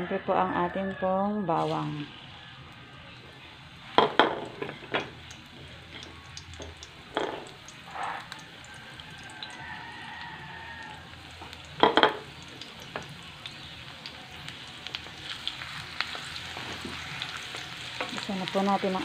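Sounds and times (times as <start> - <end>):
garlic sizzling in hot oil: 1.5 - 19.0.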